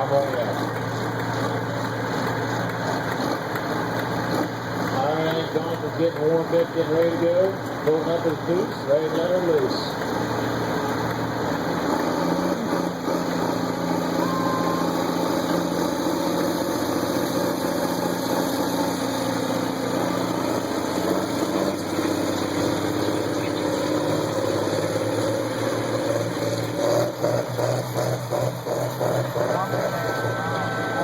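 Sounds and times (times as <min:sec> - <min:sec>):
tractor engine under load: 0:00.0 - 0:31.0.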